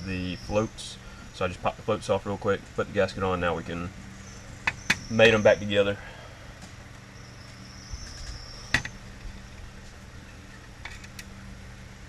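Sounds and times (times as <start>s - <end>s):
high insect trill: 0.0s - 12.0s
low hum: 0.0s - 12.0s.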